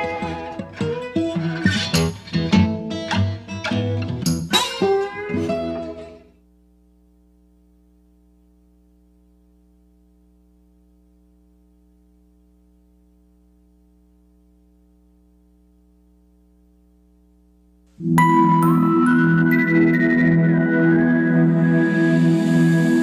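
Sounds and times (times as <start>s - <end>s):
faint mains hum: 0.0s - 22.4s.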